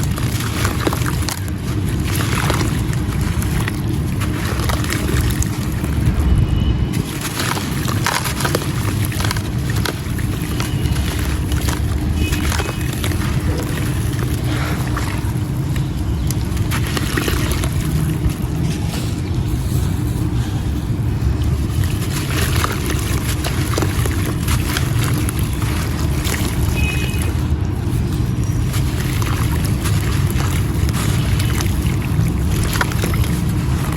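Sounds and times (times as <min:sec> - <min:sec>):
stone chunks crunching in water: 0:00.0 - 0:33.9.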